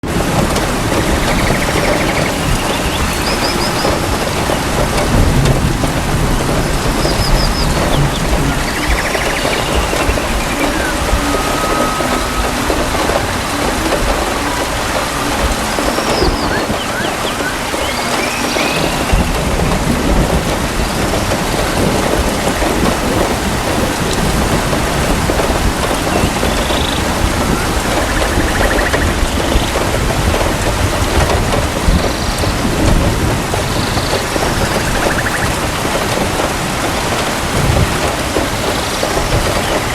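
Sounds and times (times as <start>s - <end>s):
heavy rain in a forest: 0.0s - 39.9s
low thunder rumble: 0.0s - 39.9s.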